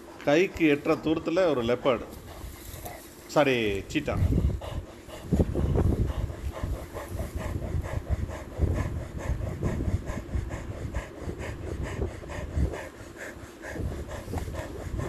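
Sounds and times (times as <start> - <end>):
cheetah panting: 0.0 - 15.0.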